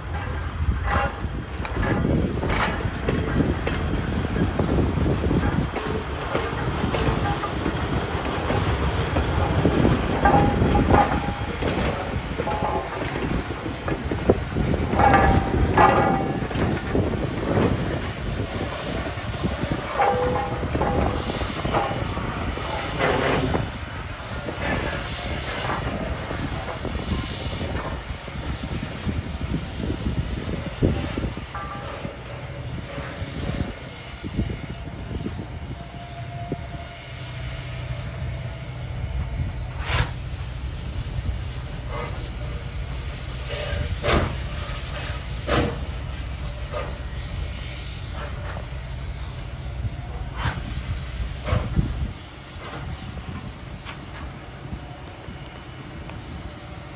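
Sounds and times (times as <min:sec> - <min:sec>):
steam locomotive rumbling: 0:00.0 - 0:56.9.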